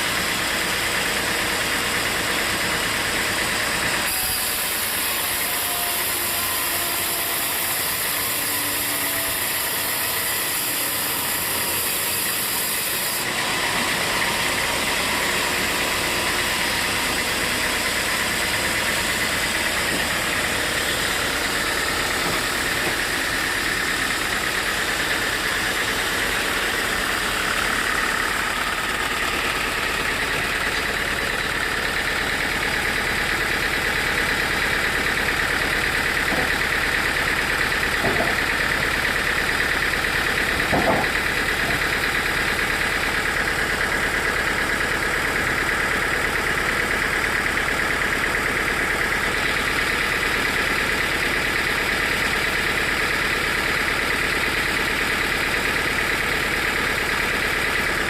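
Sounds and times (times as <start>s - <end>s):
sawmill machinery drone and whine: 0.0s - 58.0s.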